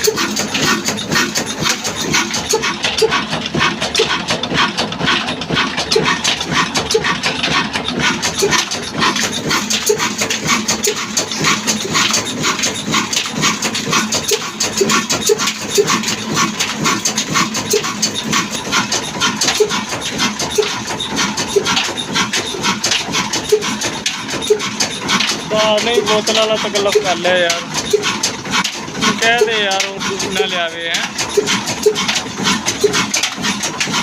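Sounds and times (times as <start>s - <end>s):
stationary diesel engine clattering: 0.0s - 34.0s.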